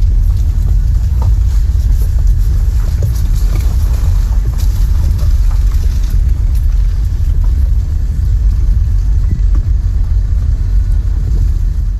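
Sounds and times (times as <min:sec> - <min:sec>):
car engine and road noise: 0:00.0 - 0:11.9.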